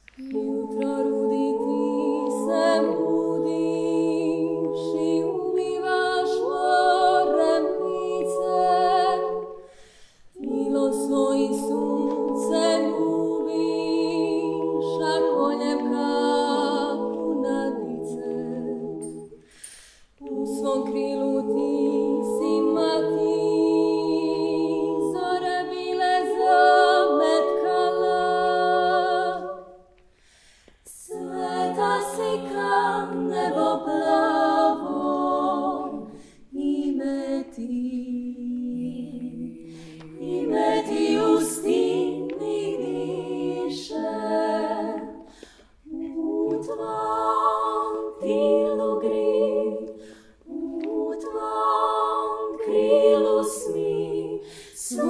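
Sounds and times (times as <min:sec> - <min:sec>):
women singing a cappella harmony: 0:00.0 - 0:30.2, 0:30.8 - 0:55.0.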